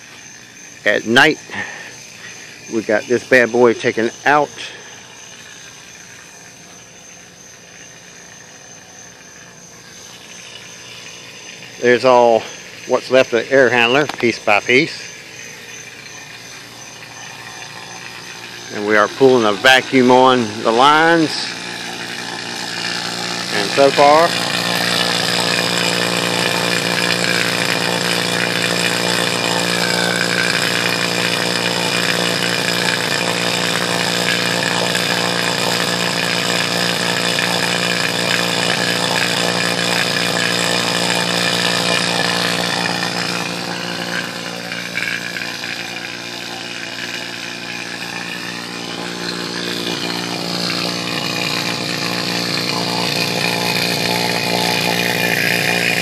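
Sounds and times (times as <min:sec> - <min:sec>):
vacuum pump humming: 0:00.0 - 0:56.0.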